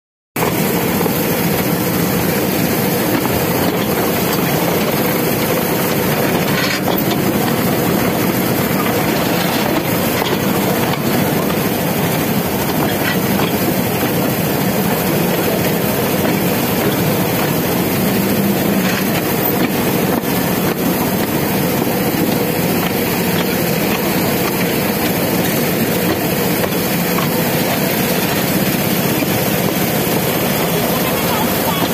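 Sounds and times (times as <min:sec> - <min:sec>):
toy train running on track: 0:00.4 - 0:31.9.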